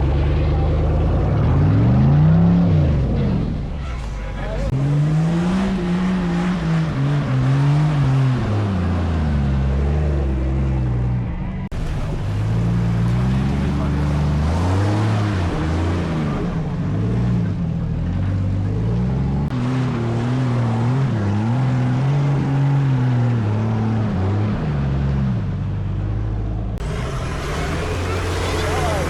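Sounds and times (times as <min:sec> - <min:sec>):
vehicle engine revving: 0:00.0 - 0:29.0.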